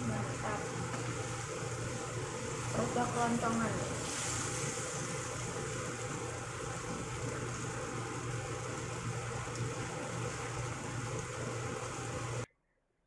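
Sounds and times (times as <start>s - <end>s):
sauce simmering in a frying pan: 0.0s - 12.5s.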